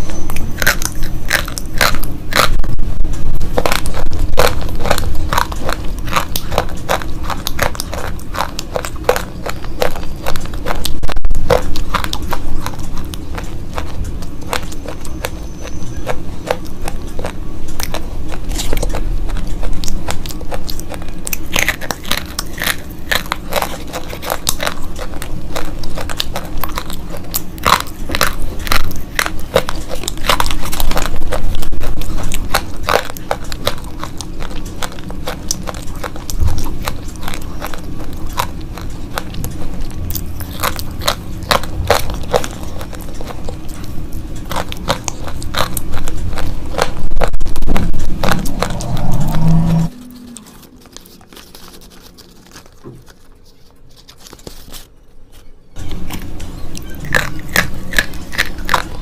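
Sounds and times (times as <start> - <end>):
slate pencils crunching being chewed: 0.0 - 59.0.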